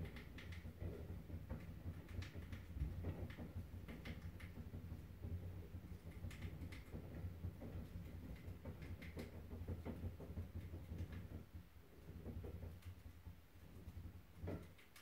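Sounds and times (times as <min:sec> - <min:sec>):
running wheel rumbling and ticking: 0:00.0 - 0:15.0.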